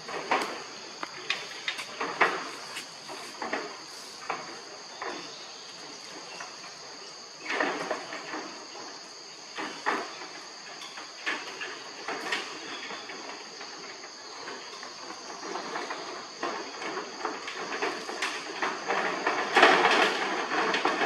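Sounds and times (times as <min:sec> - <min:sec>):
light clicks and rustles: 0:00.0 - 0:06.8, 0:07.4 - 0:21.0
insects buzzing: 0:00.0 - 0:21.0
rough rustling and scraping: 0:00.0 - 0:21.0.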